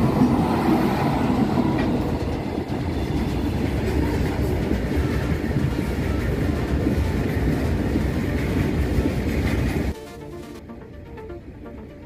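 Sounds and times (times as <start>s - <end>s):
train wheels on rails: 0.0s - 10.6s.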